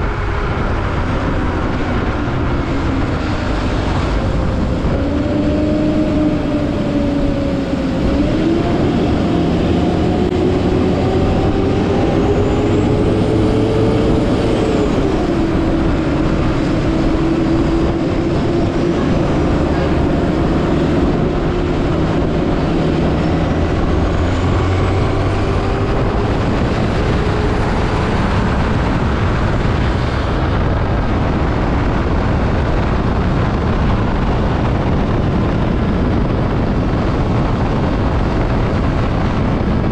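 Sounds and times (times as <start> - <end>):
wind noise rushing: 0.0 - 39.9.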